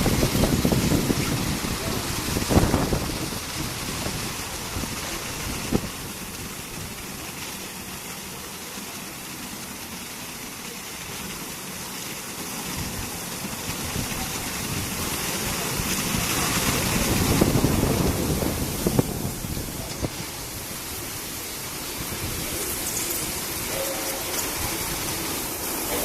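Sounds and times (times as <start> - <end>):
car wash machine noise: 0.0 - 26.0
water spray rushing: 0.0 - 26.0.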